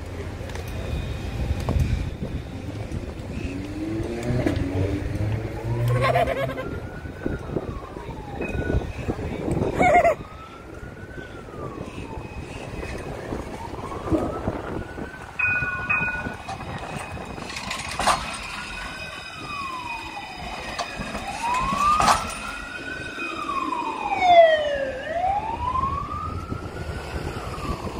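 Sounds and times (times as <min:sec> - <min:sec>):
police siren wailing: 0:02.1 - 0:27.9.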